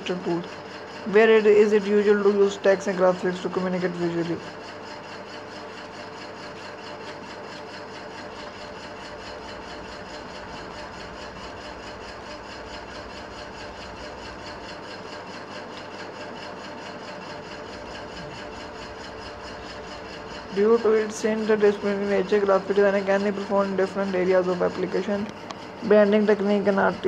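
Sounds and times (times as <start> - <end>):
steady mechanical hum with hiss: 0.0 - 27.0.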